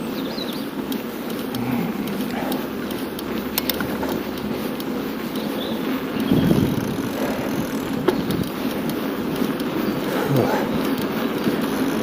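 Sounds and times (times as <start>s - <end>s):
bicycle rolling: 0.0s - 12.0s
sharp clicks: 0.4s - 12.0s.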